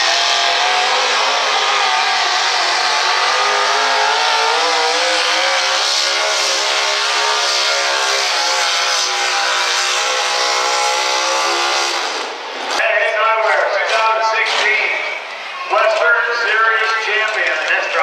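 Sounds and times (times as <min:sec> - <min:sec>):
supercharged truck engine roaring: 0:00.0 - 0:18.0.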